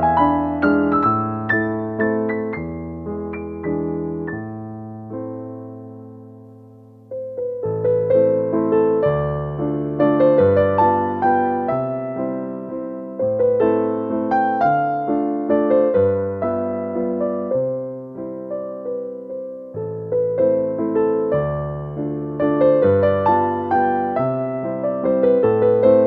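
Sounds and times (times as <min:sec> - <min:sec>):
gentle solo piano music: 0:00.0 - 0:26.0.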